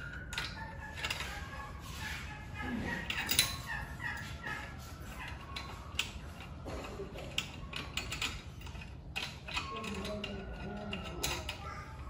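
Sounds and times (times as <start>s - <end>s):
small steel parts clinking: 0.0s - 1.5s, 3.0s - 4.5s, 5.1s - 11.8s.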